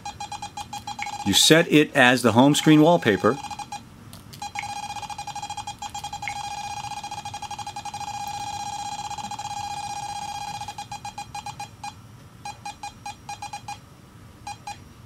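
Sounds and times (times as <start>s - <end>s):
meter alarm beeping: 0.0s - 1.7s, 2.3s - 3.8s, 4.4s - 13.8s, 14.5s - 14.8s.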